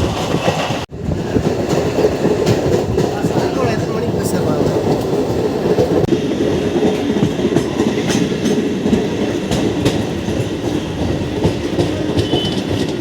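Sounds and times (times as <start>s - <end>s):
electric train rumbling on track: 0.0s - 13.0s
wheels clicking over rail joints: 0.0s - 13.0s.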